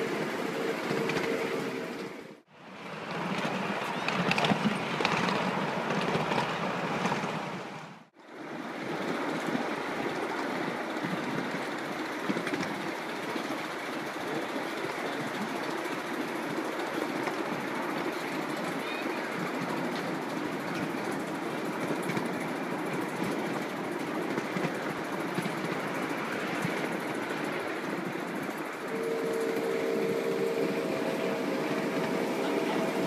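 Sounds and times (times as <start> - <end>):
miniature train wheels rumbling on rails: 0.0 - 7.6, 8.2 - 33.0.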